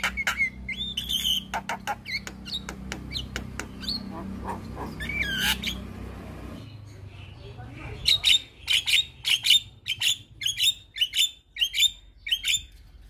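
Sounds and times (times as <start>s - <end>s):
birds calling with clicks and whistles: 0.0s - 13.0s.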